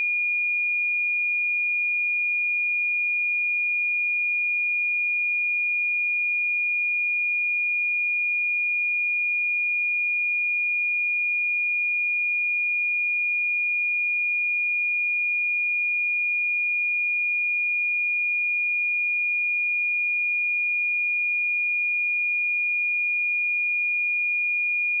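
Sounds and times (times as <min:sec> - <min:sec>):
sine-wave test tone: 0:00.0 - 0:25.0.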